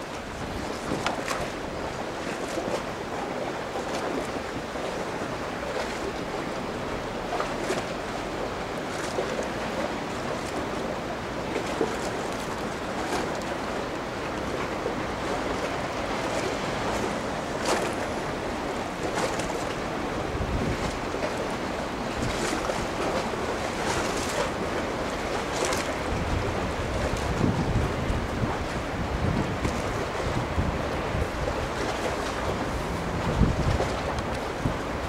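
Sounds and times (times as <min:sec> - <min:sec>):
water noise: 0:00.0 - 0:35.0
wind: 0:00.0 - 0:35.0.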